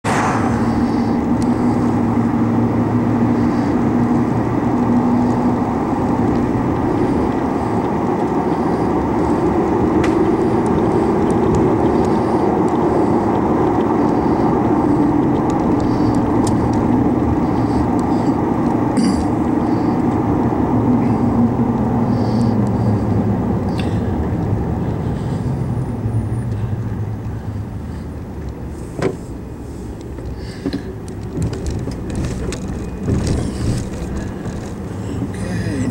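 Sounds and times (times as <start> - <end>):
car engine and tyre noise: 0.0 - 35.9.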